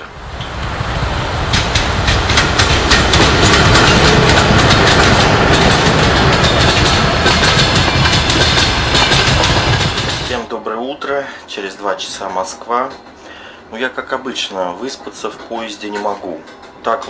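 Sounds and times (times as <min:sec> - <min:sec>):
train wheels clattering over rails: 0:00.3 - 0:10.5, 0:12.0 - 0:17.0.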